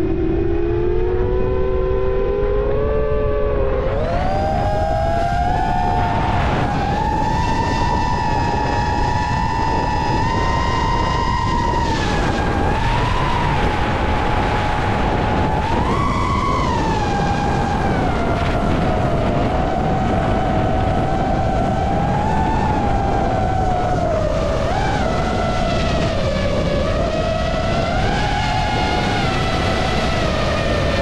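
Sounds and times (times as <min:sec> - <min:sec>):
drone motors whining: 0:00.0 - 0:31.0
heavy wind rush: 0:00.0 - 0:31.0.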